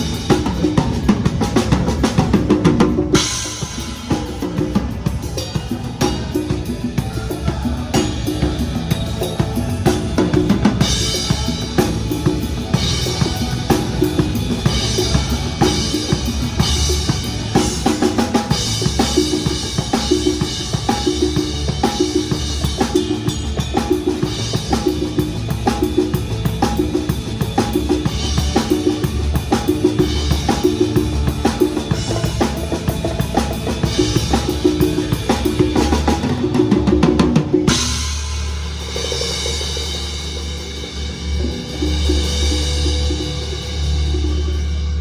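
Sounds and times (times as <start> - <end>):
drum kit groove: 0.0 - 45.0.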